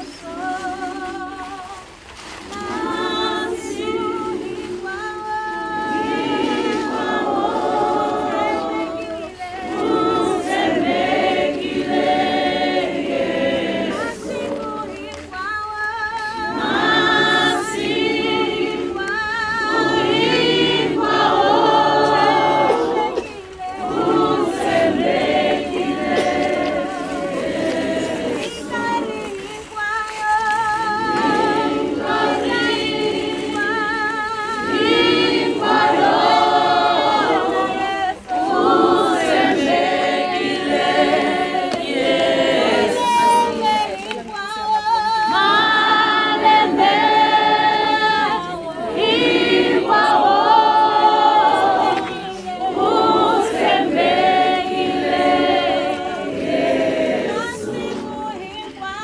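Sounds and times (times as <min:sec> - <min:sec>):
choir singing unaccompanied: 0:00.0 - 0:59.0.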